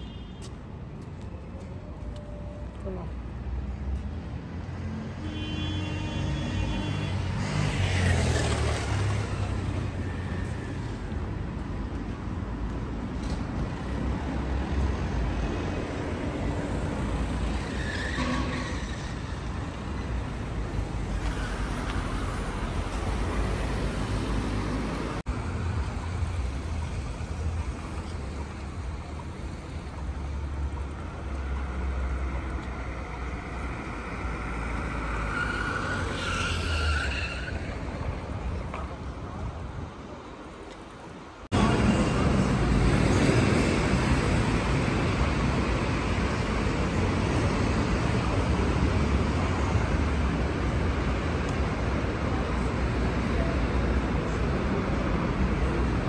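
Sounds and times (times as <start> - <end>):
rumble of car engines and tyres: 0.0 - 56.0.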